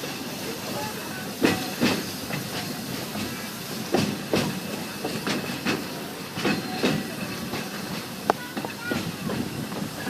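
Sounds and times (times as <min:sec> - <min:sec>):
train running rumble: 0:00.0 - 0:10.0
train wheels clacking over rail joints: 0:00.0 - 0:10.0.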